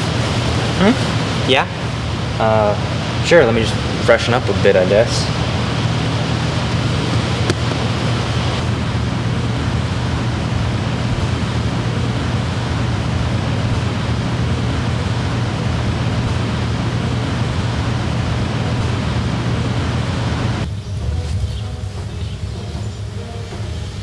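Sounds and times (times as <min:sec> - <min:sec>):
low hum: 0:00.0 - 0:24.0
steady loud hiss: 0:00.0 - 0:24.0.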